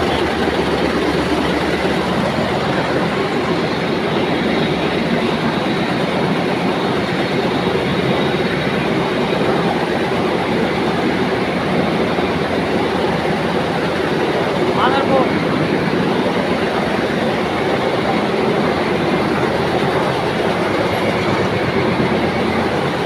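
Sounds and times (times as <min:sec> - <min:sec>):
textile machinery running: 0:00.0 - 0:23.0.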